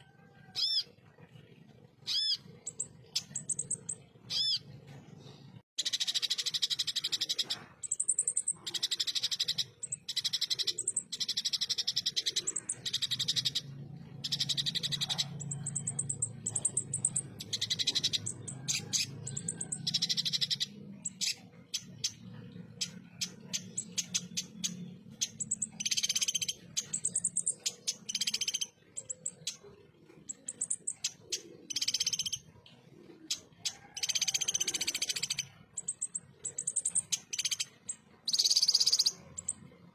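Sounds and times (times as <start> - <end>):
sunbird chattering song: 2.0 - 4.7, 5.8 - 32.5, 33.2 - 39.6.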